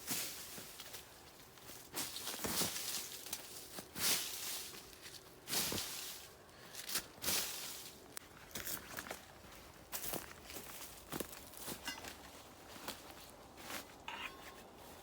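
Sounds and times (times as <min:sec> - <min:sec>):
rustling and crunching scuffs: 0:00.0 - 0:15.0.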